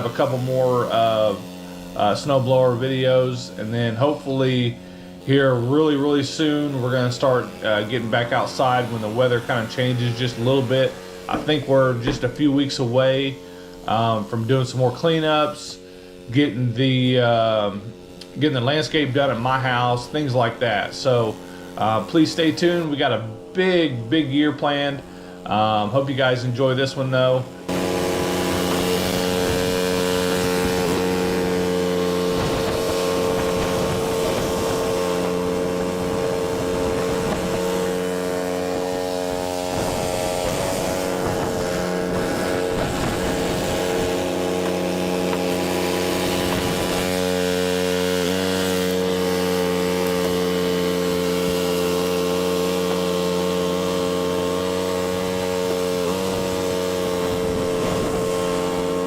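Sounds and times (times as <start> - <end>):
snow blower engine running: 0.0 - 59.0.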